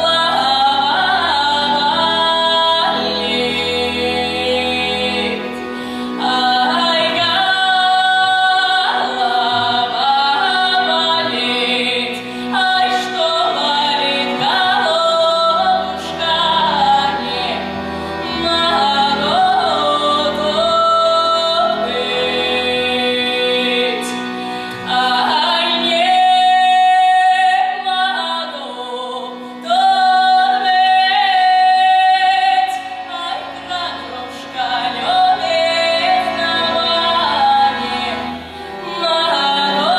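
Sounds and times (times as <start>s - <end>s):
accordion: 0.0s - 39.9s
woman singing folk song: 0.0s - 39.9s.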